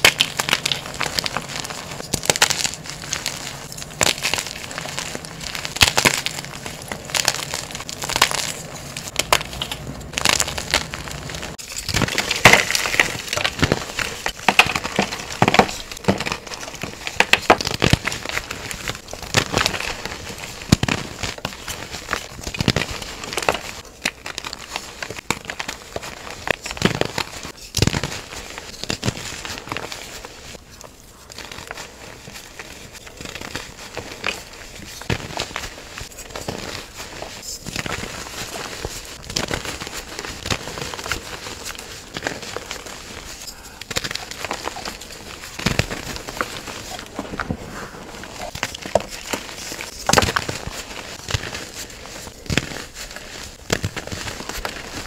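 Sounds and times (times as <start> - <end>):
chalk crunching in hands: 0.0 - 55.0.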